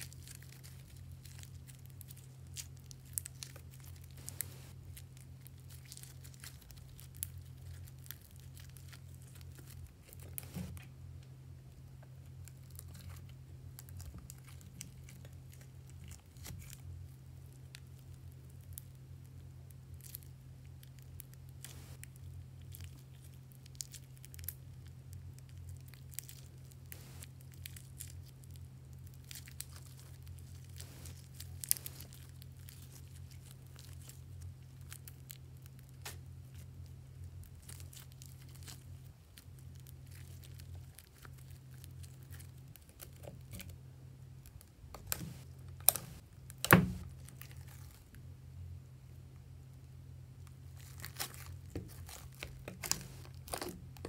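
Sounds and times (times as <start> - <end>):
slime crackling and popping: 0.0 - 10.9, 12.2 - 43.8, 44.4 - 48.2, 50.4 - 54.0
steady low hum: 0.0 - 54.0.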